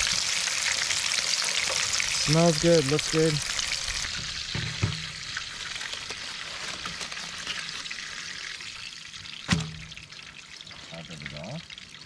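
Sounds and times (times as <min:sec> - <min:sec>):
fish fillets sizzling in oil: 0:00.0 - 0:12.0.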